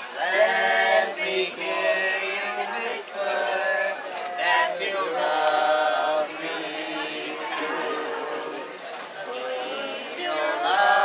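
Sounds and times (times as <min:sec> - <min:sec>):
crowd chatter: 0:00.0 - 0:11.0
group singing together: 0:00.0 - 0:11.0.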